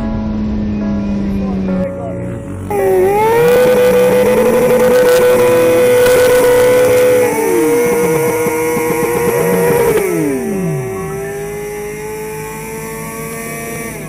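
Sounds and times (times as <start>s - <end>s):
motorcycle engine revving high: 0.0s - 14.0s.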